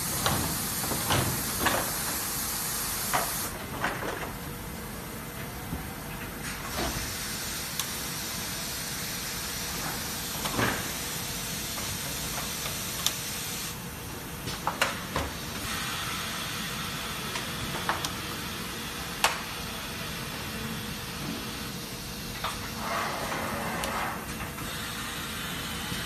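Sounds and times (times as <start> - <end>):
welding machine hiss: 0.0 - 3.6, 6.4 - 14.3, 14.9 - 26.0.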